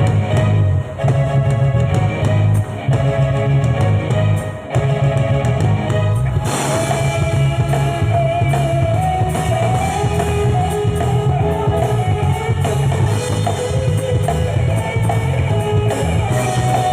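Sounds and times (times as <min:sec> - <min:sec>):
live rock band playing: 0:00.0 - 0:16.9.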